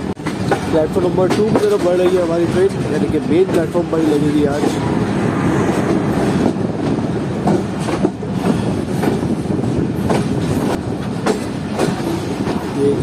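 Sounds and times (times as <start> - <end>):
train wheel clicks: 0.0 - 4.9, 5.8 - 13.0
train rumbling over rails: 0.0 - 13.0.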